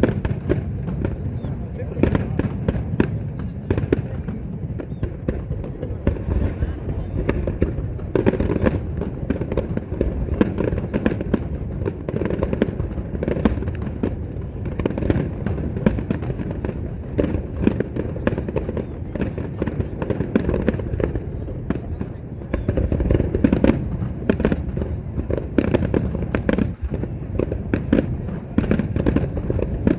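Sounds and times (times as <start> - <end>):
fireworks bangs and crackling: 0.0 - 29.9.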